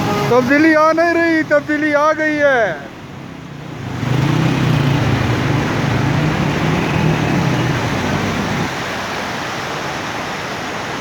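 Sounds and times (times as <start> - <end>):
vehicle engine humming: 0.0 - 8.9
traffic hiss on wet street: 0.0 - 11.0.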